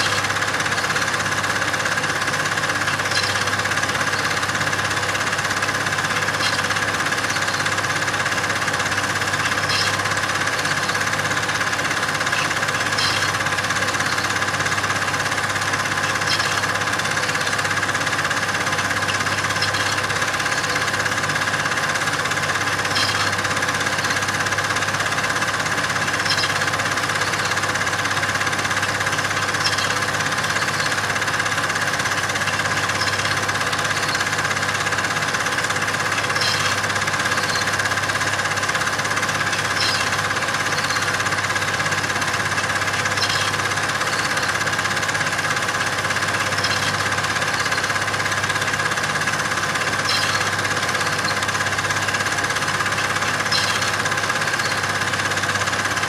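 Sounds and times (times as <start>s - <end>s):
steady mechanical running noise: 0.0s - 56.0s.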